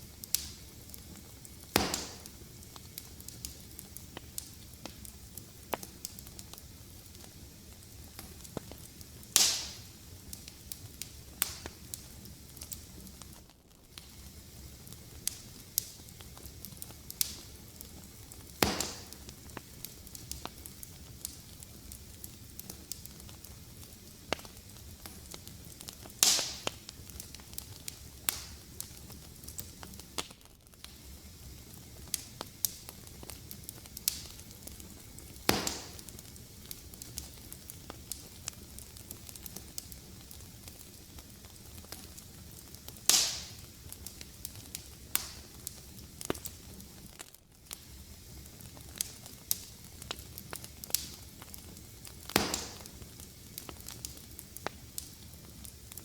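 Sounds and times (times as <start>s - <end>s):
fire crackling in fireplace: 0.0s - 56.0s
loud fire pops: 0.0s - 56.0s.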